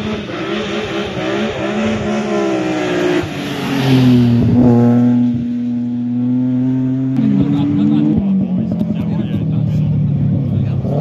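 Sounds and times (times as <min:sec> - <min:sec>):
rally car engine passing by: 0:00.0 - 0:11.0.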